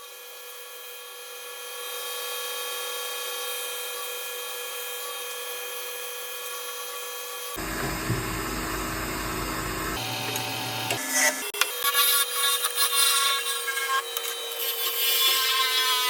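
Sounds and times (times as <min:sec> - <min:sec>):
wood lathe whining: 0:00.6 - 0:16.0.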